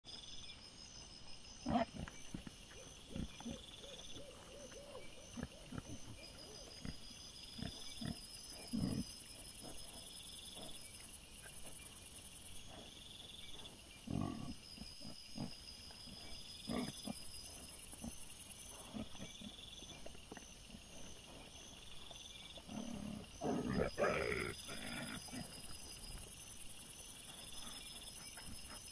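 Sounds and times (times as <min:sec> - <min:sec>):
night insects chirring: 0:00.1 - 0:28.9
wild boar grunting and snuffling: 0:00.2 - 0:28.9.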